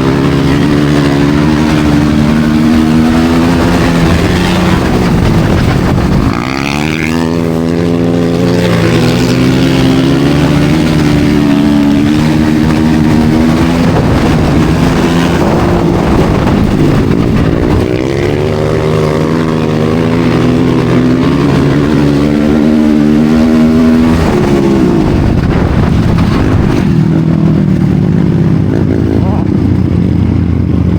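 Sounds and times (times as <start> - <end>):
racing motorcycle engines revving: 0.0 - 30.9.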